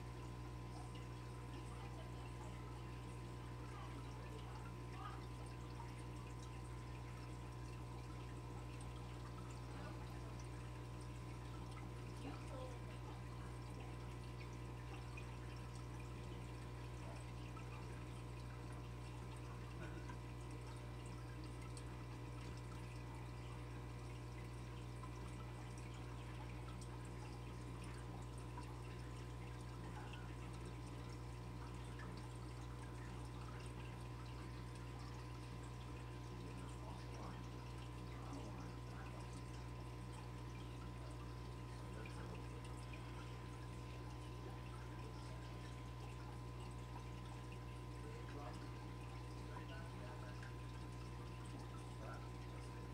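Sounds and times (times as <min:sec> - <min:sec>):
aquarium filter humming: 0:00.0 - 0:52.9
water trickling and dripping: 0:00.0 - 0:52.9.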